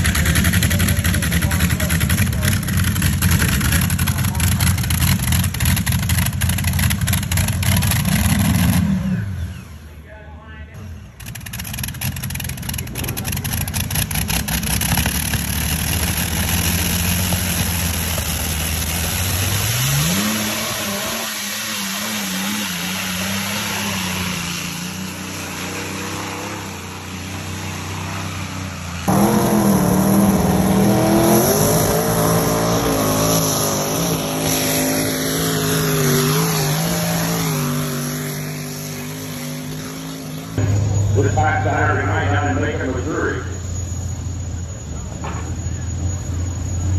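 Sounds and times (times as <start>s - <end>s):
engine revving: 0.0s - 10.0s, 10.8s - 44.8s
truck engine under load: 0.0s - 10.0s, 10.8s - 46.9s.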